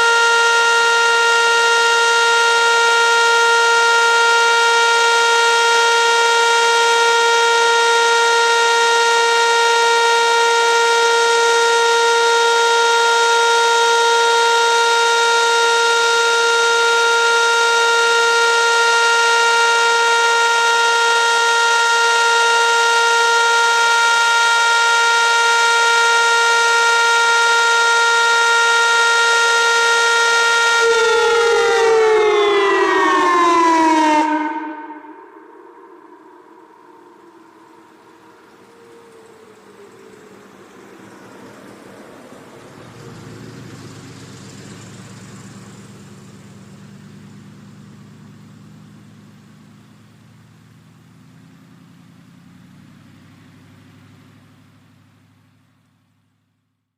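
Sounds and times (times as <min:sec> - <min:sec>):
outdoor warning sirens steady tone: 0:00.0 - 0:56.9.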